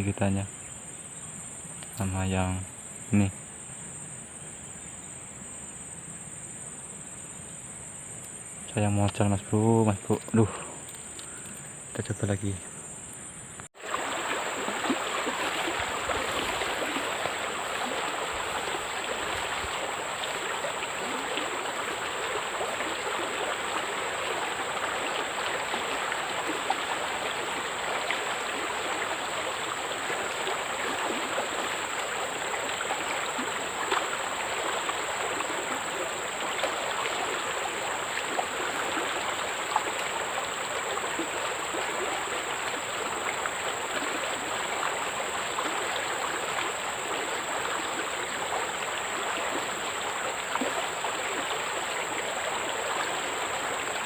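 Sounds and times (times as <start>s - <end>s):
high insect drone: 0.0s - 54.0s
water flowing: 8.2s - 12.9s, 13.6s - 54.0s.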